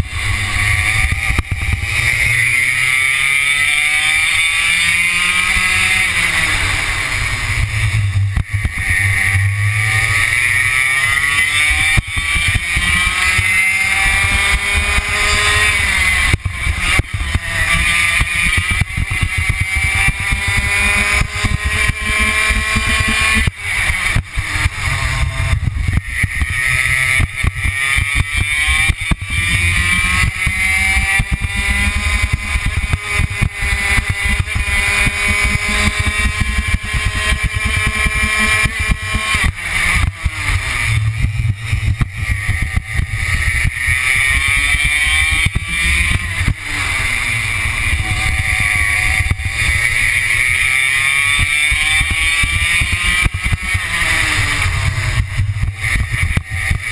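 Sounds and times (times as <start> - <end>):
racing kart engine revving: 0.0 - 56.9.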